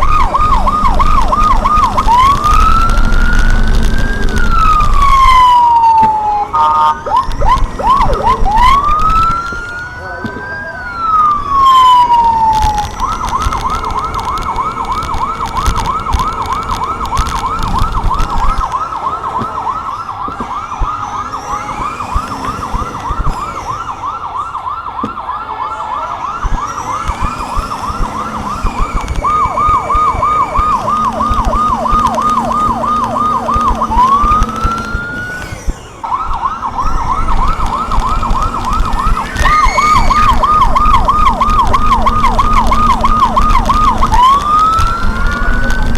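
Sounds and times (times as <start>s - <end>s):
electronic siren wailing: 0.0s - 45.9s
vehicle road and engine rumble: 0.0s - 45.9s.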